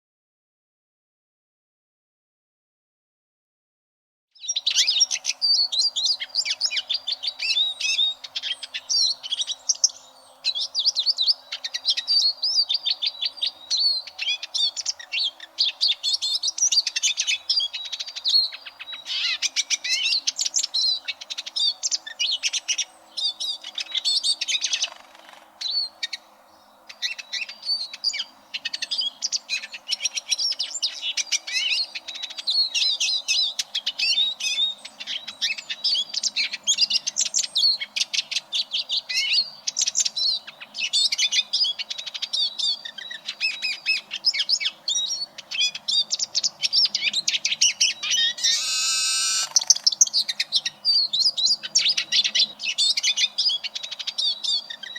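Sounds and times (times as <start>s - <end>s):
bird twittering song: 4.4s - 54.9s.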